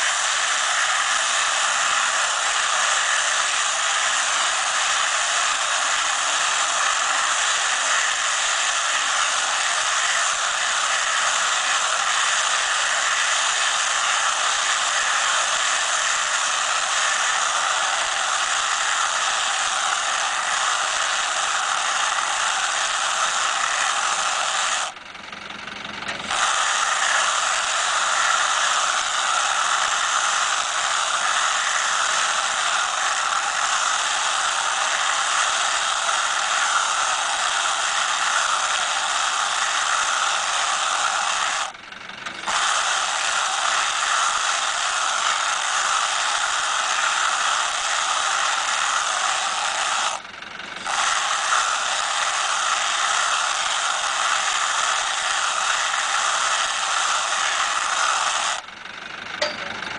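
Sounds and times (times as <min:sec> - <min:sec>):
bale wrapper hiss and whir: 0:00.0 - 0:58.8.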